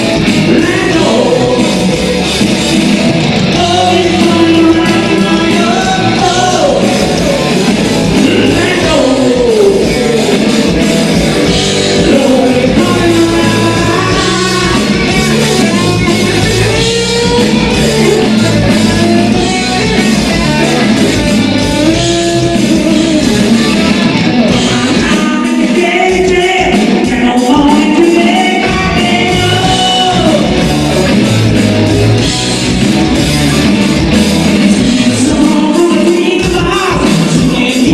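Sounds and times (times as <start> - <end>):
drum groove: 0.0 - 37.9
electric guitar: 0.0 - 37.9.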